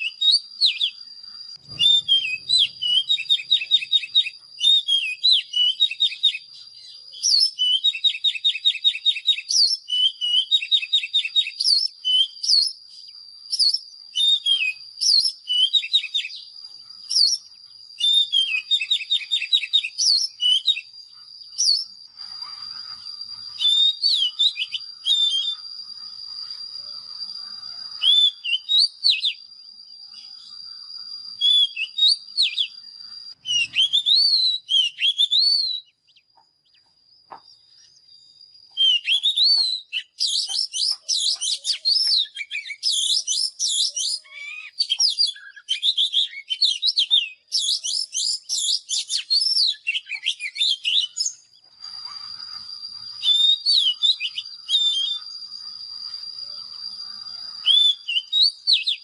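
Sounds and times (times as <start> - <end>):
bird singing whistled phrases: 0.0 - 59.0.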